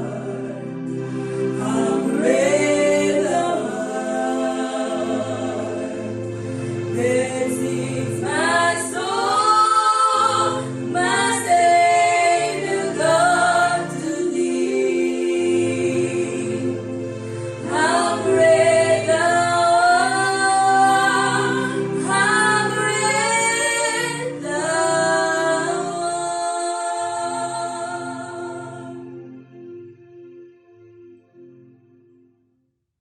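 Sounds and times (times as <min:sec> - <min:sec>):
voices singing gospel song: 0:00.0 - 0:29.2.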